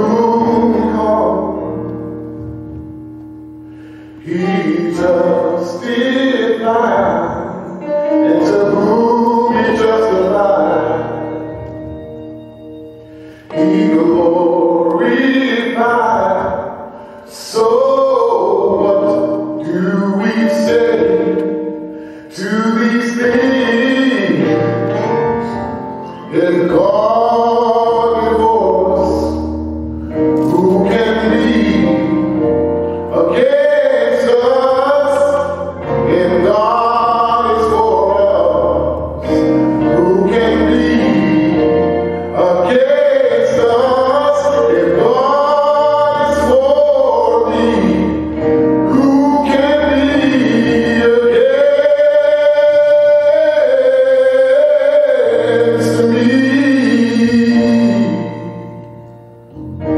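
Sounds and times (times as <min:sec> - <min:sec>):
man singing gospel into microphone: 0:00.0 - 0:02.9, 0:03.8 - 0:59.9
keyboard accompaniment: 0:00.0 - 0:59.9.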